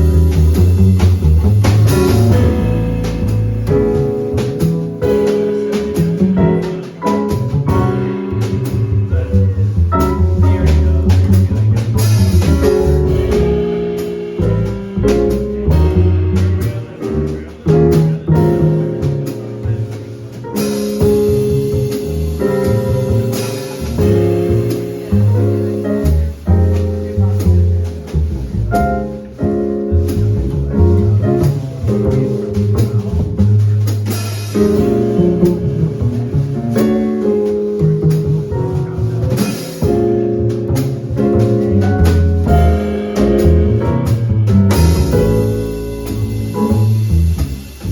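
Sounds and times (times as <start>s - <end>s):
drums and cymbals: 0.0s - 47.9s
piano chords and melody: 0.0s - 47.9s
walking bass: 0.0s - 47.9s.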